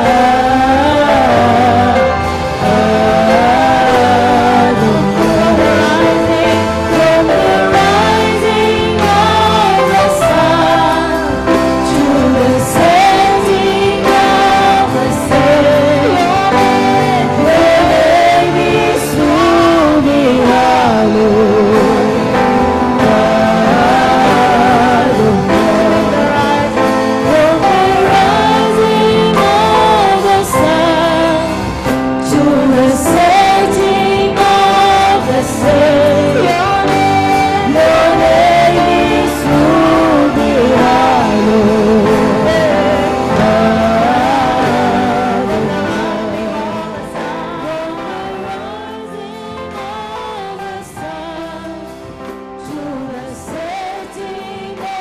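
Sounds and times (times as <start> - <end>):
backing vocalists: 0.0 - 55.0
drums: 0.0 - 55.0
keyboard: 0.0 - 55.0
woman leading singing: 0.0 - 55.0.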